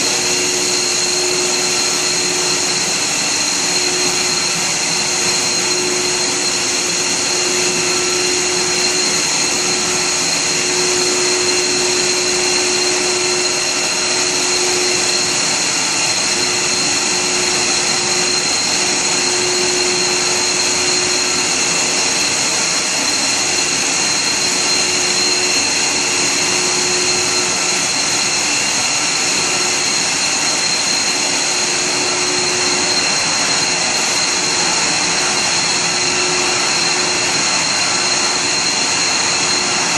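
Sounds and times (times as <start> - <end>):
high-pitched machine whine: 0.0 - 39.9
machine whir and hiss: 0.0 - 39.9.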